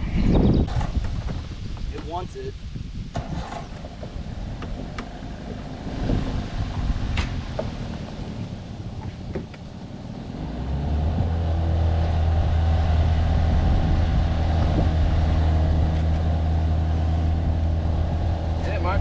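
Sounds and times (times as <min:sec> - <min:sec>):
outboard motor running: 0:03.2 - 0:19.0.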